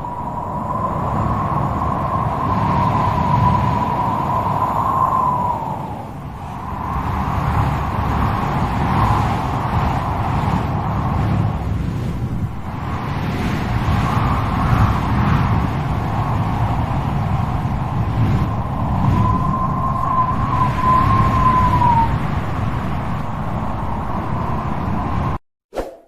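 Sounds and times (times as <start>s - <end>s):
strong wind howling: 0.0s - 25.4s.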